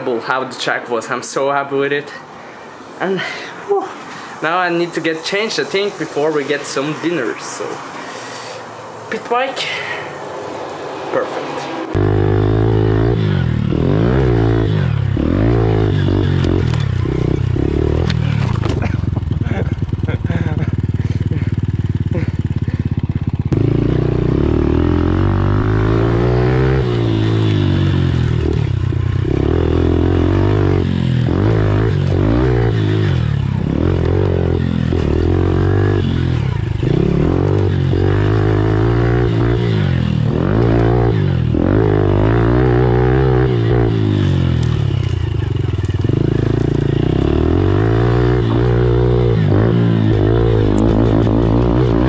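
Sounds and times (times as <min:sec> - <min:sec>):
motorbike engine revving: 0:10.3 - 0:52.0.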